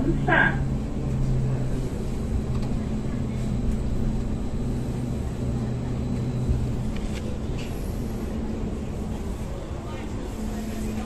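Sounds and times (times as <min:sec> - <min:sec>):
light rail low hum: 0:00.0 - 0:11.0.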